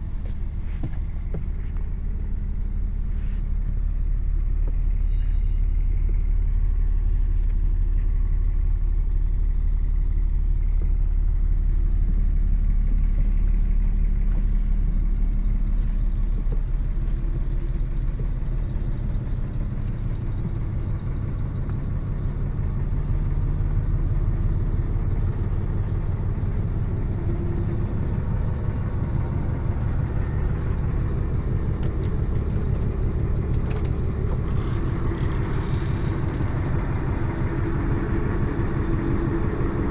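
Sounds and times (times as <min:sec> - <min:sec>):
coach diesel engine rumbling: 0:00.0 - 0:39.9.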